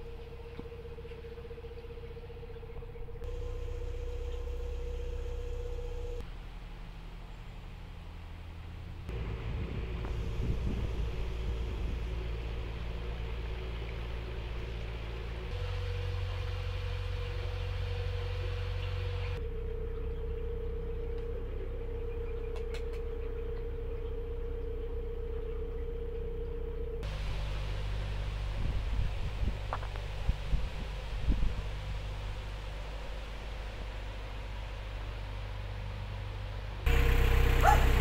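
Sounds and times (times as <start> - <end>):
boat diesel engine droning: 0.0 - 38.0
steady hum: 0.0 - 38.0.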